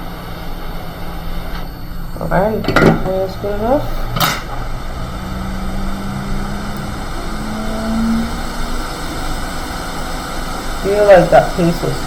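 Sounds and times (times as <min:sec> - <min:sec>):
hot air fan hissing: 0:00.0 - 0:12.0
faint low hum: 0:01.0 - 0:10.9.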